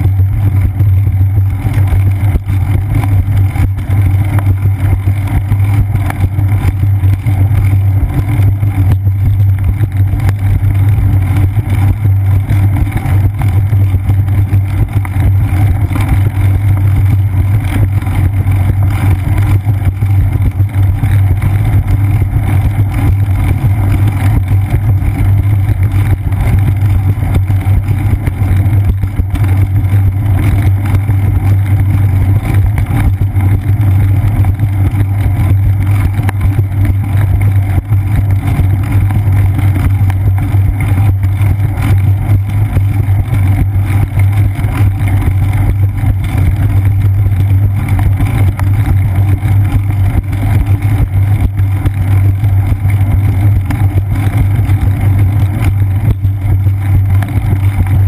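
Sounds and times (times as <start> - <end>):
bicycle road vibration: 0.0 - 58.0.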